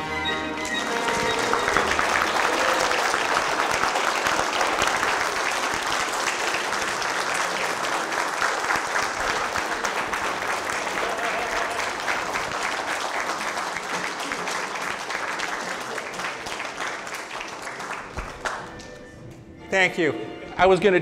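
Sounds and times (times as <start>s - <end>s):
audience applauding: 0.0s - 19.2s
orchestral music: 0.0s - 21.0s.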